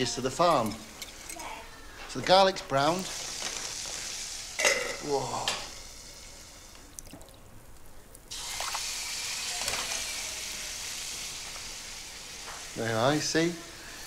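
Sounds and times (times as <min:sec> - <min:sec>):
garlic sizzling in a pan: 0:00.0 - 0:14.0.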